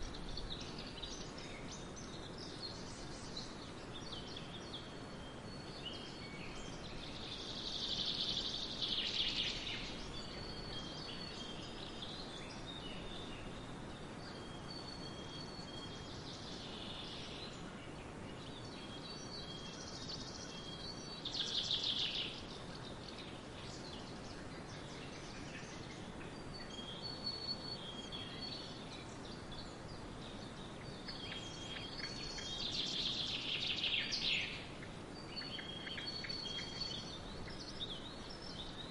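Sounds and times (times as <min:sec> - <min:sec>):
swallows twittering: 0:00.0 - 0:38.9
wind hiss: 0:00.0 - 0:38.9.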